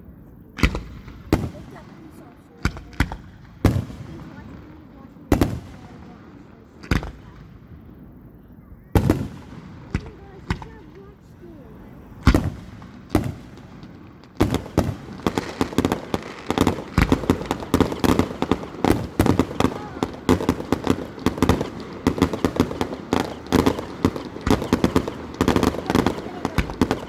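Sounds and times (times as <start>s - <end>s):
fireworks bangs and crackles: 0.1s - 27.0s.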